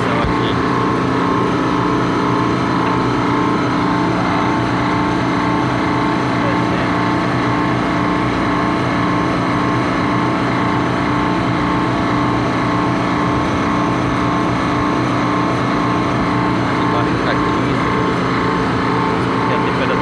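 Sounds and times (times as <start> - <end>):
compressor and fan humming: 0.0 - 20.0.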